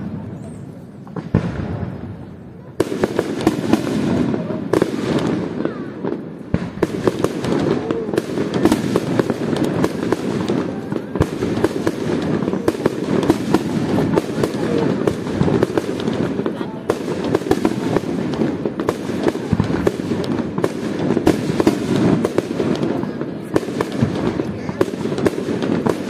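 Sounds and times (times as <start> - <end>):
fireworks bangs and pops: 0.0 - 26.0.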